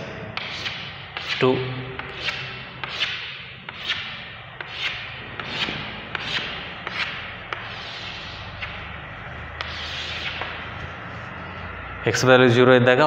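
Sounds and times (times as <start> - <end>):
chalk scraping on blackboard: 0.3 - 11.6.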